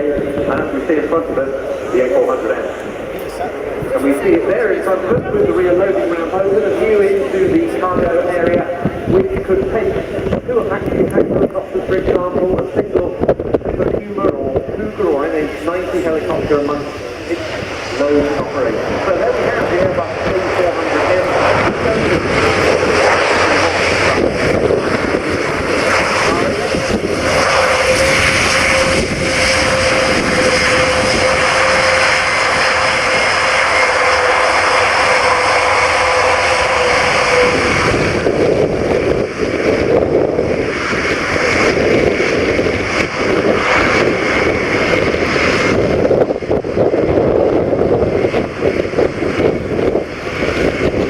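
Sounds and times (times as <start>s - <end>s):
turboprop engines running: 0.0s - 51.0s.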